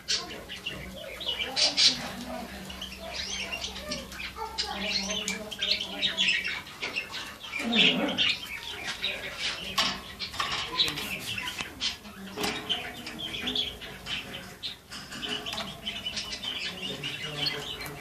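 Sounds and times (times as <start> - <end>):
canaries chirping and singing: 0.0 - 18.0.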